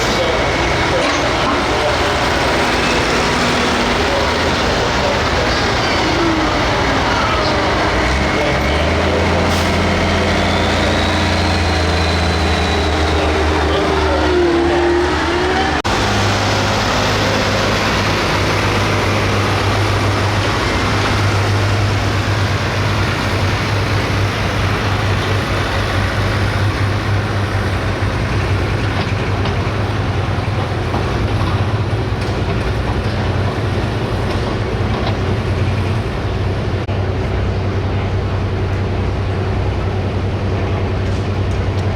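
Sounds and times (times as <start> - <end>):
tractor diesel engine running hard: 0.0 - 41.9.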